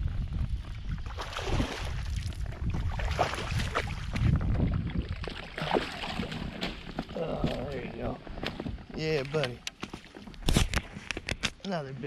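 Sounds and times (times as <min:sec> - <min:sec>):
wind rumbling on microphone: 0:00.0 - 0:11.6.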